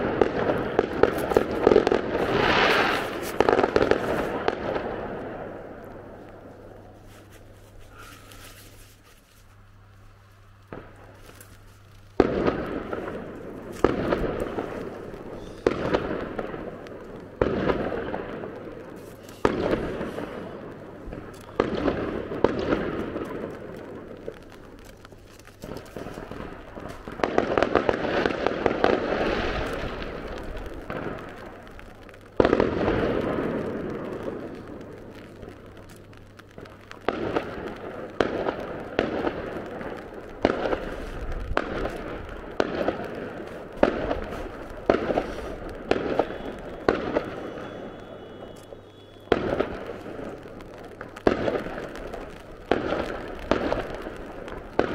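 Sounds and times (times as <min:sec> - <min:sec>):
firework shells bursting: 0:00.0 - 0:09.7, 0:10.6 - 0:54.9
firework crackling: 0:00.0 - 0:54.9.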